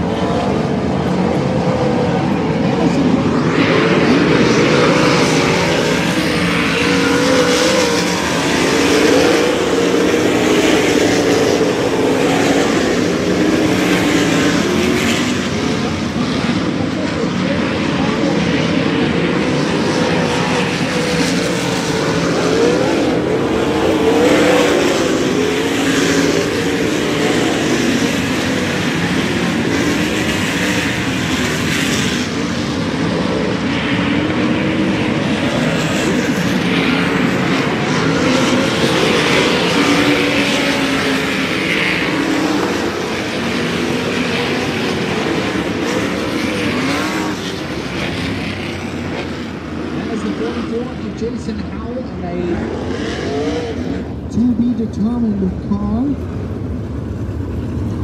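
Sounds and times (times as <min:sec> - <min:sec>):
race car engines at full throttle: 0:00.0 - 0:58.0.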